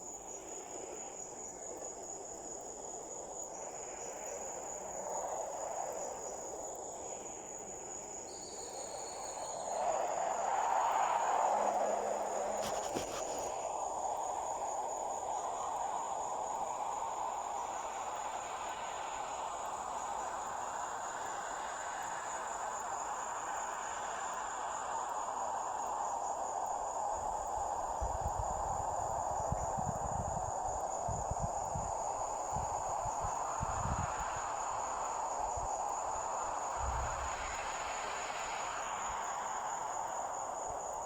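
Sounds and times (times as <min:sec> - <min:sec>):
background hiss: 0:00.0 - 0:41.0
crickets trilling: 0:00.0 - 0:41.0.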